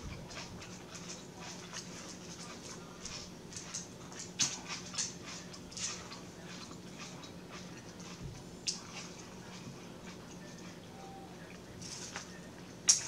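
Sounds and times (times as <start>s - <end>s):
low steady hum: 0.0s - 13.0s
wet chewing and mouth smacks: 0.1s - 10.9s.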